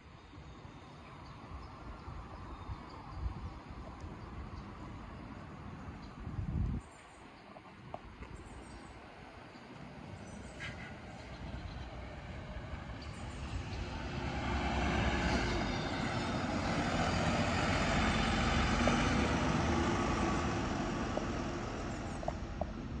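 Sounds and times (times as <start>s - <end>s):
bus engine and tyre noise: 0.0s - 23.0s.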